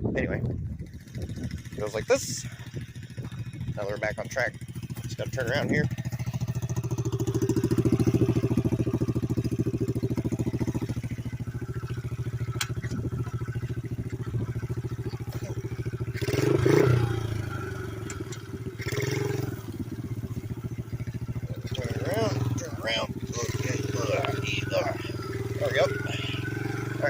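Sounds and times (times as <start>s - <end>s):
small motorcycle engine putting: 0.6s - 27.0s
clatter and scraping on ground: 1.4s - 25.2s.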